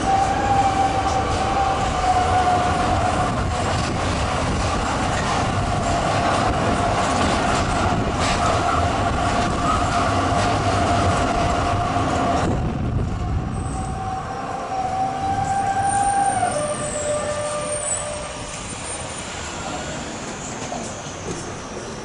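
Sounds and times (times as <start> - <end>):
thin whine of tram: 0.0 - 22.0
tram running on rails: 0.0 - 22.0.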